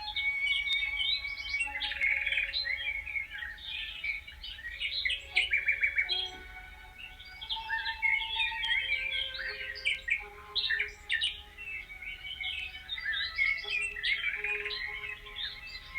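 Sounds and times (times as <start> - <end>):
songbirds chirping and trilling: 0.0 - 15.9.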